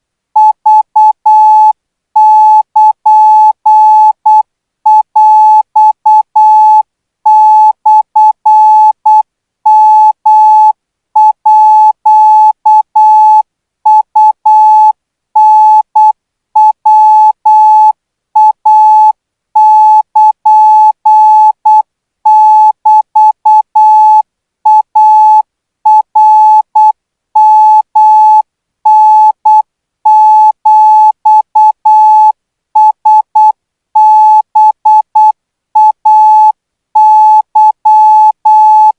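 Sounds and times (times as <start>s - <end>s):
morse code beeps: 0.4s - 38.9s.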